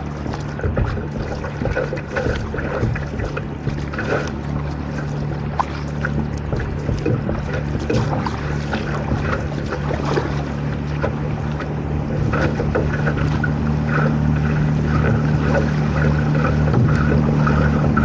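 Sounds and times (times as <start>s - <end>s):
boat engine droning: 0.0s - 18.0s
water splashing against hull: 0.0s - 18.0s.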